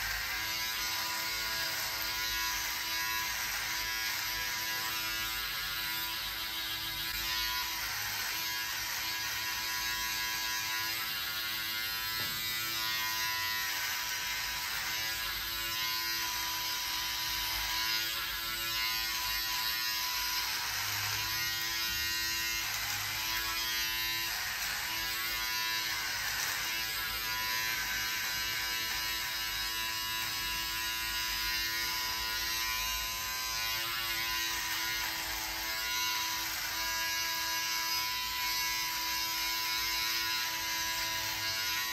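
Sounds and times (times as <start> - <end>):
electric beard trimmer buzzing: 0.0 - 41.9.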